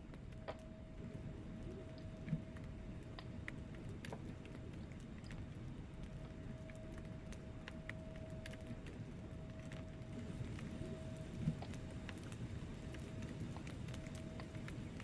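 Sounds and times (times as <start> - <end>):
faint steady tone: 0.0 - 15.0
logs crackling and popping: 0.0 - 15.0
rumble of flames: 0.0 - 15.0.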